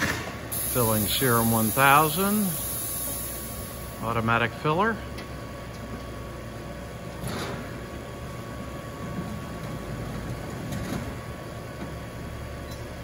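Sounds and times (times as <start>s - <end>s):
filling machine hum: 0.3s - 13.0s.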